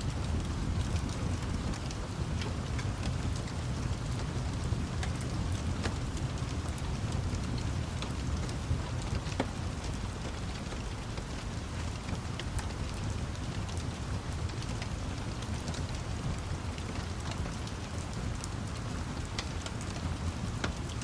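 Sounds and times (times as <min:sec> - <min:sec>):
crackling wood fire: 0:00.0 - 0:21.0
steady rain hiss: 0:00.0 - 0:21.0.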